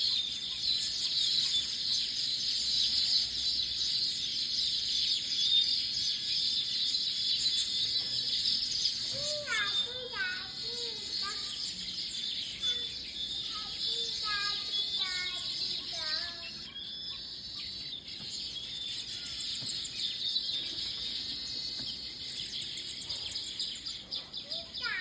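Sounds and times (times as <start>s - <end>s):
weaver birds chirping and chattering: 0.0s - 25.0s.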